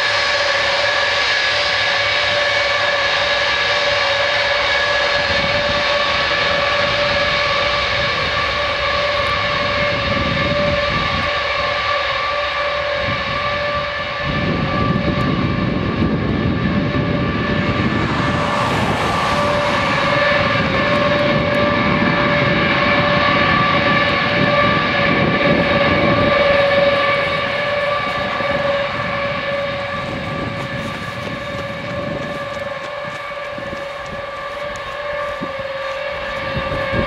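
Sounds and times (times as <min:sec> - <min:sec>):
deep jet engine rumble: 0:00.0 - 0:37.0
high whine of jet engines: 0:00.0 - 0:37.0.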